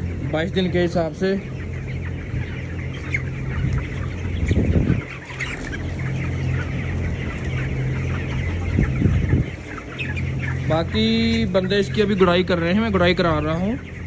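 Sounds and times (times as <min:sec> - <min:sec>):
chickens peeping and clucking: 0:00.0 - 0:14.0
ventilation fans humming: 0:00.0 - 0:14.0.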